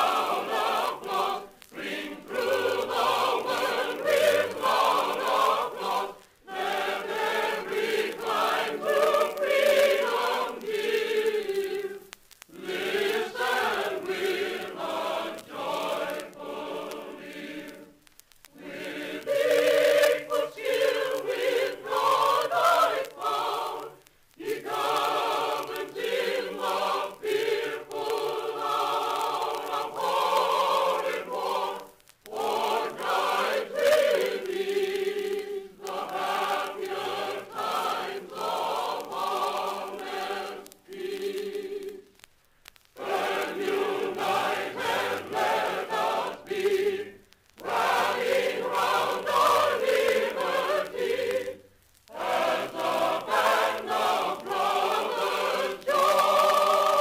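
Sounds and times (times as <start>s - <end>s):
mixed chorus singing: 0.0s - 42.1s, 43.0s - 57.0s.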